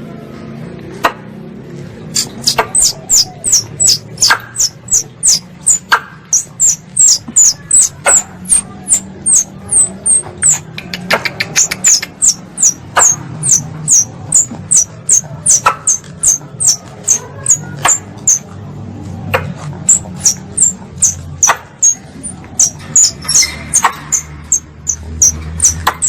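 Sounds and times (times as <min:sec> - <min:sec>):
squirrel call chirps: 0:02.2 - 0:18.5, 0:19.8 - 0:26.0.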